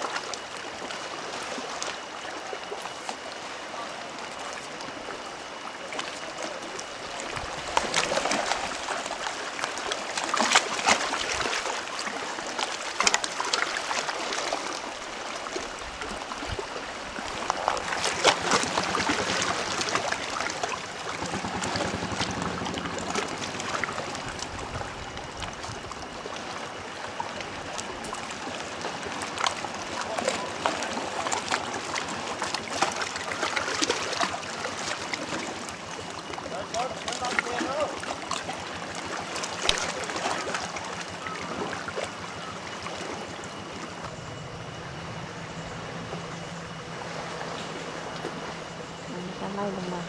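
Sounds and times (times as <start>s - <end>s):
water splashing and trickling: 0.0s - 44.2s.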